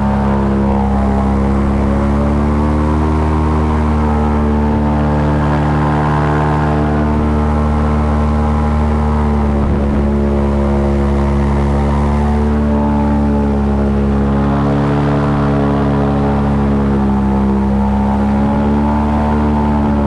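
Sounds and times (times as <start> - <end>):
airboat engine and propeller drone: 0.0 - 20.0.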